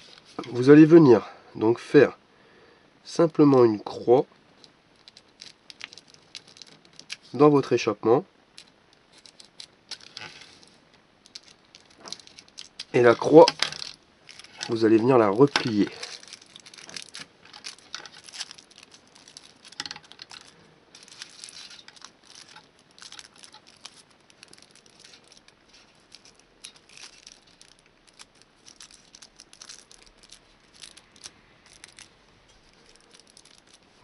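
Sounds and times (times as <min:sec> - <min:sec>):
aluminium foil crinkling: 0:04.6 - 0:07.9, 0:08.5 - 0:34.0.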